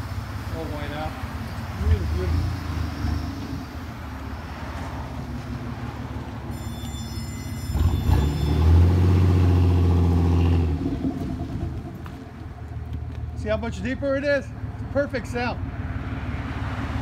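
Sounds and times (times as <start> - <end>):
engine idling and revving: 0.0 - 6.6, 7.4 - 17.0.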